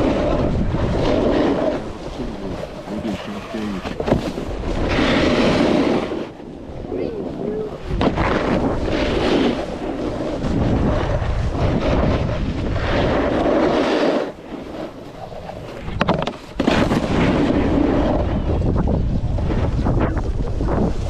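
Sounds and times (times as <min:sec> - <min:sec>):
snowboard sliding over snow: 0:00.0 - 0:21.0
wind rushing over microphone: 0:00.0 - 0:21.0.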